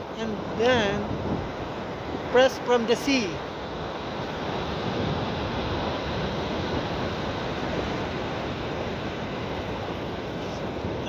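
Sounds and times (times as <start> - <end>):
surf breaking on beach: 0.0 - 11.0.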